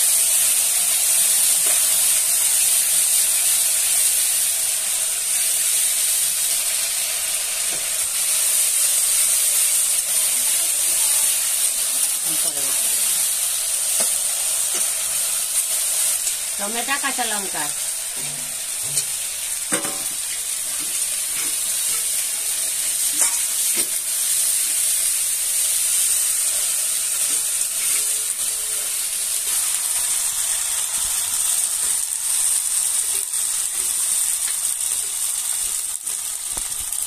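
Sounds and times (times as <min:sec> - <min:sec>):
masala sizzling in hot oil: 0:00.0 - 0:37.0.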